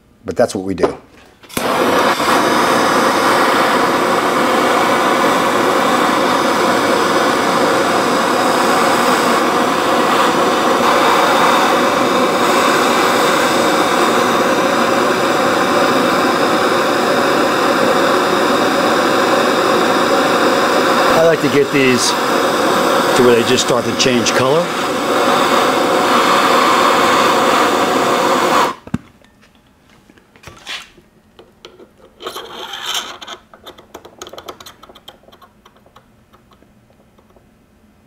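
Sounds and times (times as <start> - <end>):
gas torch flame hissing: 1.4 - 28.9, 30.7 - 37.4.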